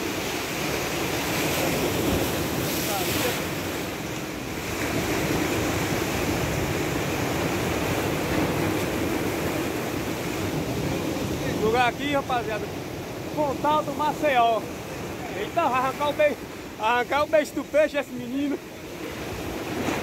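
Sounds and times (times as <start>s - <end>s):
surf breaking on rocks: 0.0s - 20.0s.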